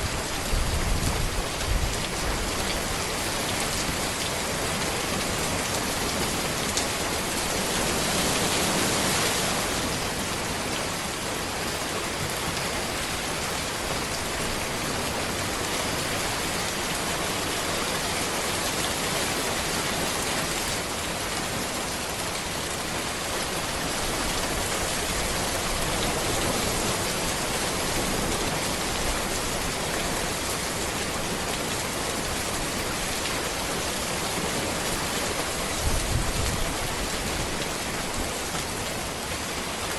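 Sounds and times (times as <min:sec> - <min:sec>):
rain falling on road: 0:00.0 - 0:39.9.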